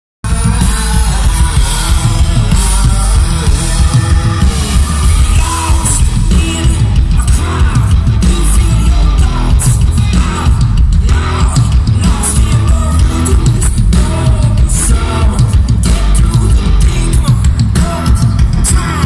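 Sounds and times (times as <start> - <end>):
live rock band playing: 0.2 - 19.0.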